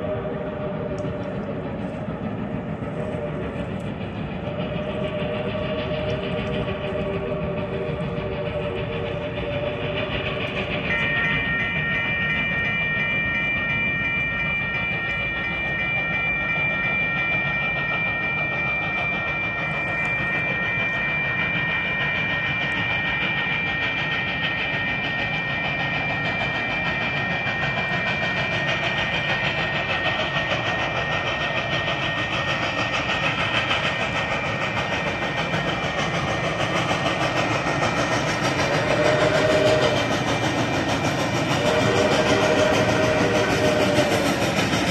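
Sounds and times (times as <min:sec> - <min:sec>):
crossing warning bell ringing: 0:00.0 - 0:44.9
locomotive chime whistle: 0:00.0 - 0:44.9
steam locomotive rumble: 0:00.0 - 0:44.9.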